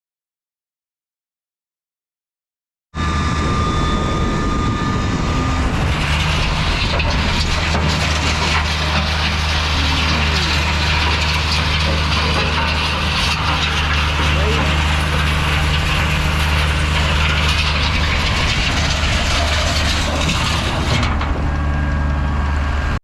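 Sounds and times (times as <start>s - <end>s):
diesel engine running: 3.0s - 23.0s.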